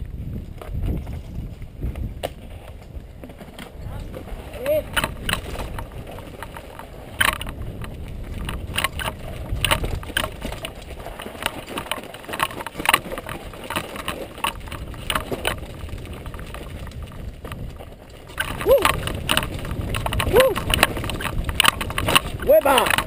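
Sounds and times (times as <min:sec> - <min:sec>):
tyres rolling on dirt: 0:00.0 - 0:23.0
bike chain and frame clattering: 0:02.4 - 0:23.0.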